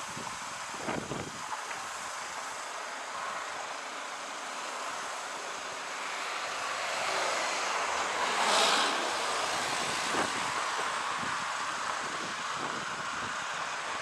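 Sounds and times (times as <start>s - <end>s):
distant jet engines rushing: 0.0s - 14.0s.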